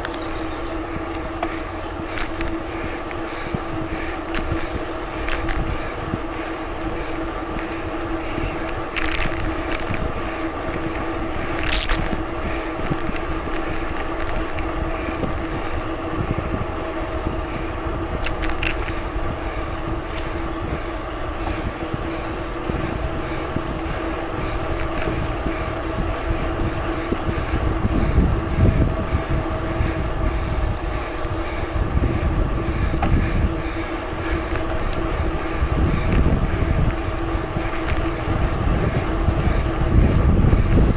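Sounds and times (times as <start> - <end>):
bicycle rolling noise: 0.0 - 40.9
steady hum: 0.0 - 40.9
wind buffeting microphone: 0.0 - 40.9.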